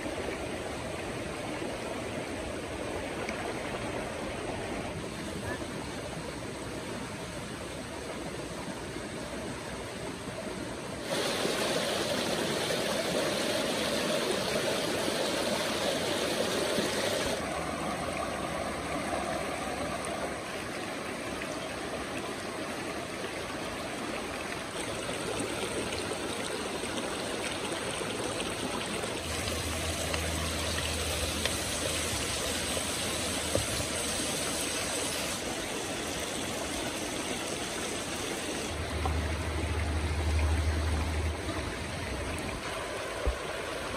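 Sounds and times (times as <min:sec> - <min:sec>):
river rushing over stones: 0:00.0 - 0:43.9.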